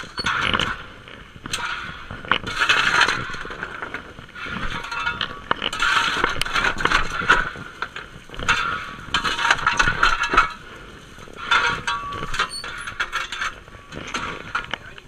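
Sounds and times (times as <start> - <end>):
coal clinking off shovel: 1.5 - 15.0.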